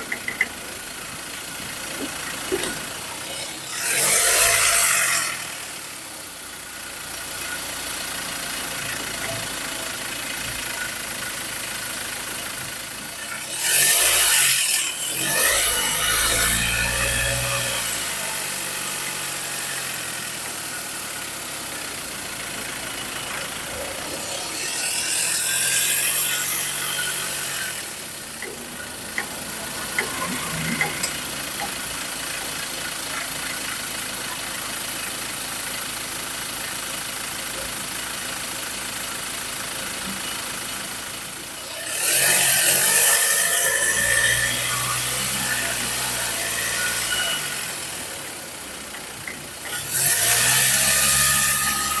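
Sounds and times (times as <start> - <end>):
road and engine noise: 0.0 - 52.0.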